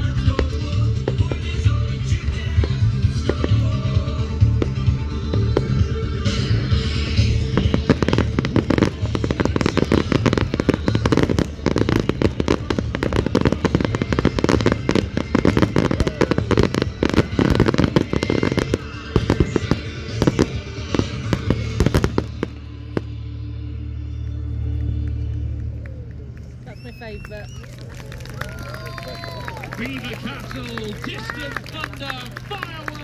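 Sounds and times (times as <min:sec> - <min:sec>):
fireworks bursting and crackling: 0:00.0 - 0:33.0
music playing: 0:00.0 - 0:33.0.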